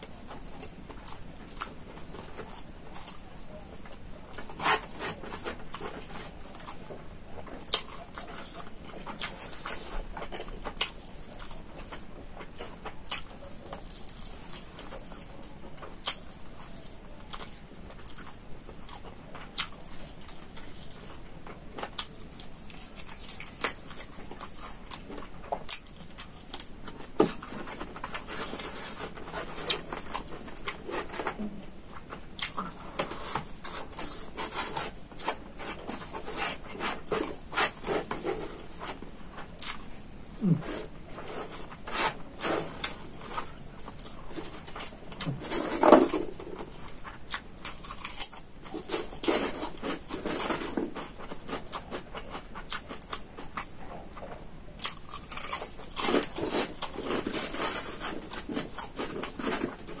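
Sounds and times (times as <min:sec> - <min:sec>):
chewing and lip-smacking: 0:05.3 - 0:34.4, 0:35.2 - 0:40.8, 0:46.2 - 1:00.0.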